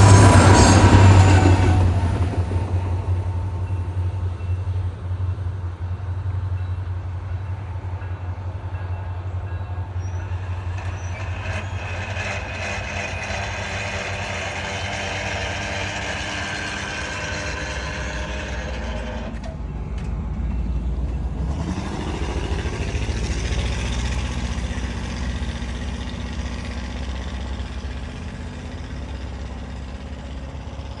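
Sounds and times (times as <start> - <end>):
diesel locomotive engine: 0.0 - 31.0.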